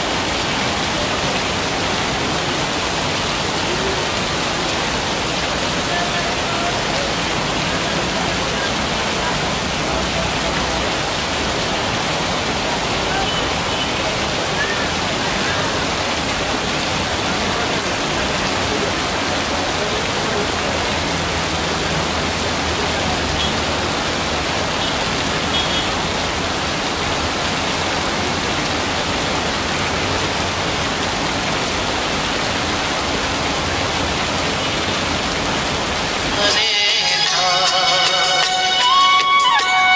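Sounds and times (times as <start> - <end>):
heavy rain on water and pavement: 0.0 - 39.9.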